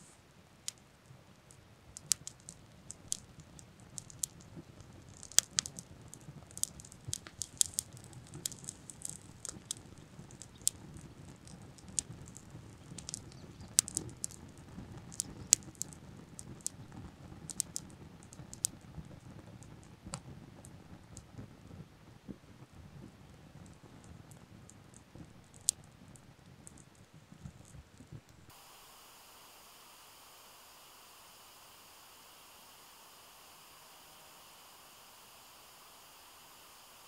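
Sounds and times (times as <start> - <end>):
tinder crackling and popping: 0.0 - 37.0.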